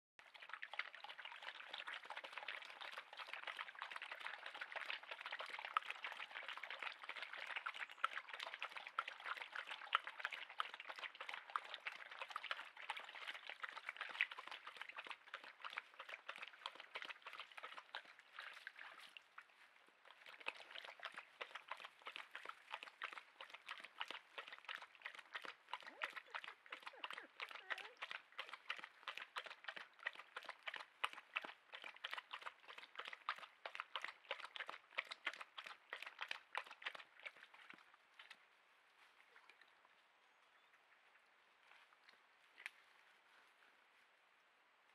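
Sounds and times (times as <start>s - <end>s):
water trickling in stony stream: 0.2s - 44.9s.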